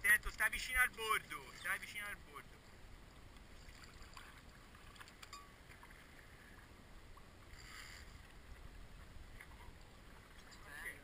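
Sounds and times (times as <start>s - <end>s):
sea noise: 0.0s - 11.0s
wind: 0.0s - 11.0s.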